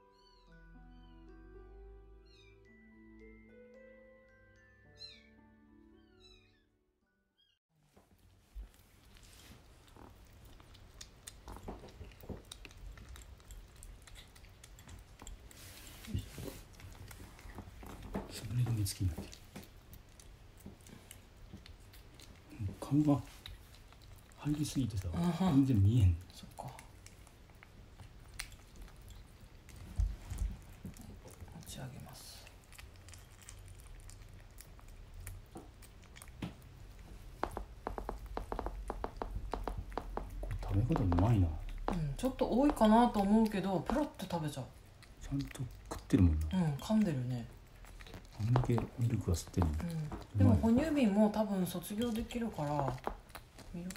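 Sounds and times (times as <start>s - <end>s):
kitten chewing wet food: 8.0s - 53.9s.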